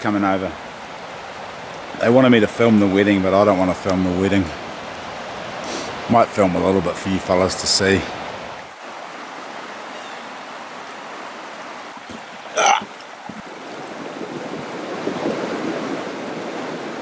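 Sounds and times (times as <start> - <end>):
river water rushing over stones: 0.0 - 17.0.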